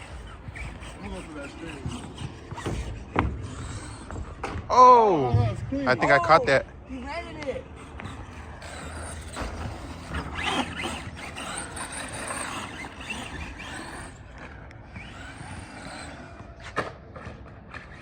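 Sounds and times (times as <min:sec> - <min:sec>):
small electric motors whining: 0:00.0 - 0:18.0
tyre noise: 0:00.0 - 0:18.0.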